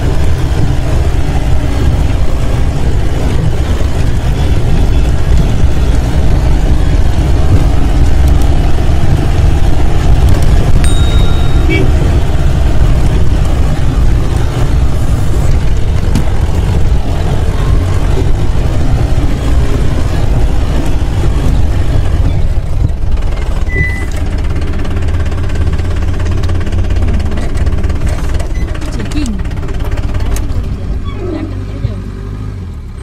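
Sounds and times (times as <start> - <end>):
engine low rumble: 0.0 - 33.0.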